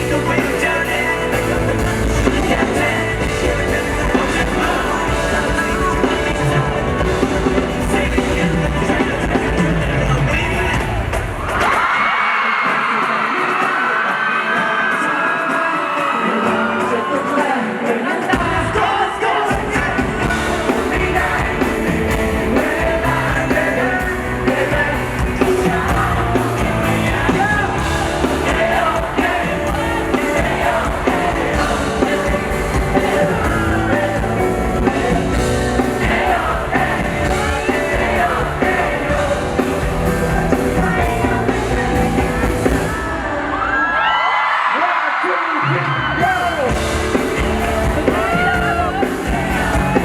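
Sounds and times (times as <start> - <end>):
person singing: 0.0 - 11.1, 11.8 - 50.0
live pop-rock band: 0.0 - 44.8, 45.6 - 50.0.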